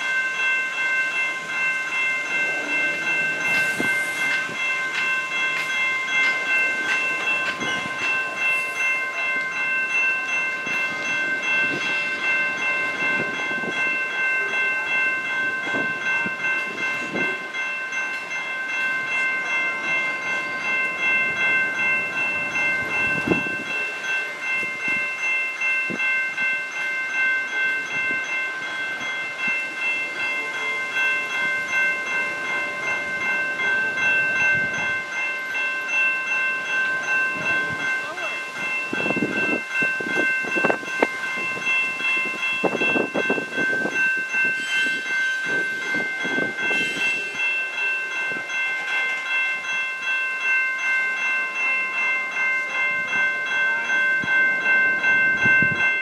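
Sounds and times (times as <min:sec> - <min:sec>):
crossing warning bell ringing: 0:00.0 - 0:56.0.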